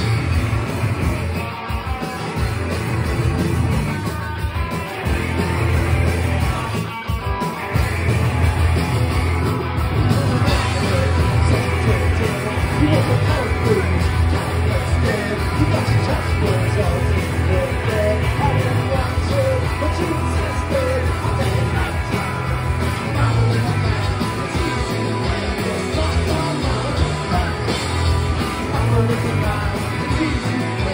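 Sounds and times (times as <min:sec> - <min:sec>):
loud electric guitars: 0:00.0 - 0:30.9.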